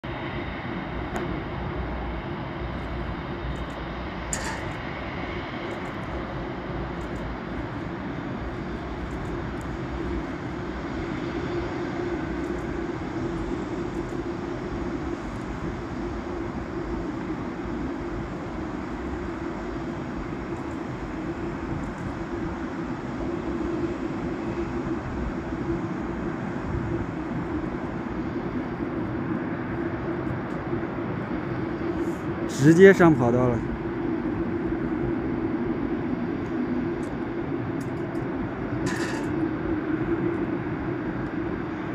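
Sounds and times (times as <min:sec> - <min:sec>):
distant jet engines rumbling: 0:00.1 - 0:41.9.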